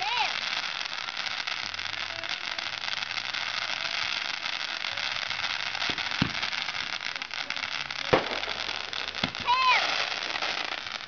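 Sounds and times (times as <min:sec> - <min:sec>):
fireworks fizzing crackle: 0:00.0 - 0:11.0
sharp firework pops: 0:00.0 - 0:11.0.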